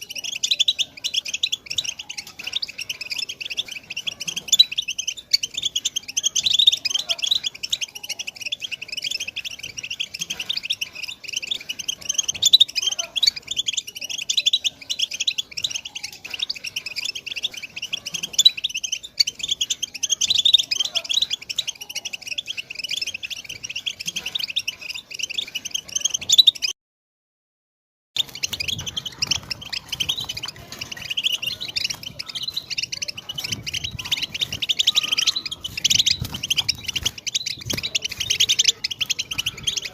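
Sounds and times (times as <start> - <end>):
goldfinch twittering song: 0.0 - 26.7, 28.2 - 39.9.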